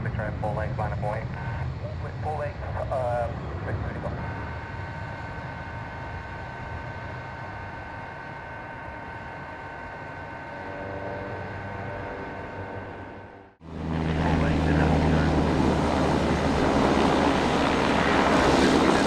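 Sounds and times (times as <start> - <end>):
faint high whine: 0.0 - 19.0
jet engine roar: 0.0 - 19.0.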